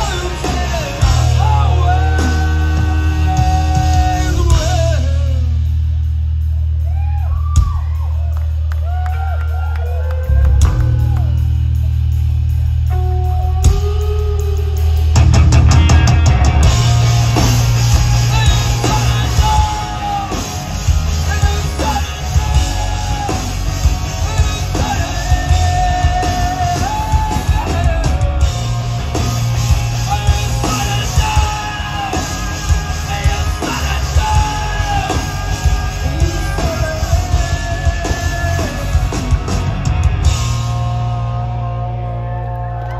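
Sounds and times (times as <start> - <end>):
distorted electric guitar: 0.0 - 6.2, 10.2 - 42.9
drum kit: 0.0 - 42.8
rock band playing live: 0.0 - 42.9.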